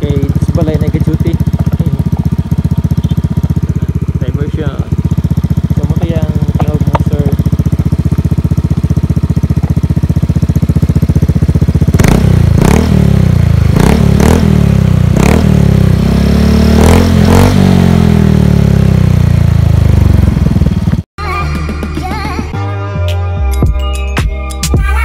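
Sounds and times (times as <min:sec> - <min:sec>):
scooter engine revving: 0:00.0 - 0:22.6.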